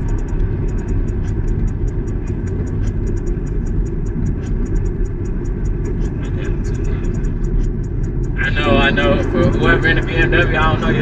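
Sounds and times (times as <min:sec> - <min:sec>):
car engine rumbling: 0:00.0 - 0:11.0
fast regular high ticking: 0:00.0 - 0:11.0.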